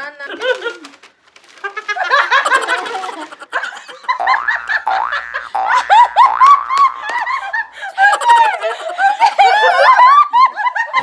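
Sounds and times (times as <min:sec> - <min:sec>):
people laughing loudly: 0:01.6 - 0:11.0.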